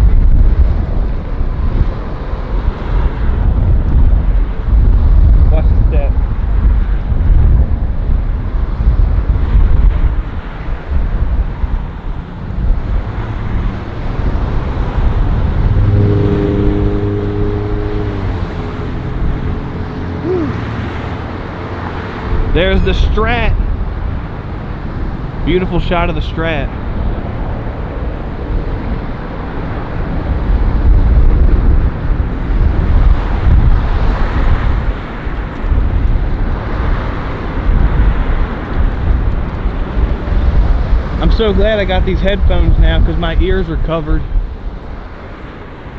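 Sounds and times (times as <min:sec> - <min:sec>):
road traffic: 0:00.0 - 0:45.9
vehicle engine humming close by: 0:00.0 - 0:45.9
wind rumbling on microphone: 0:00.0 - 0:45.9.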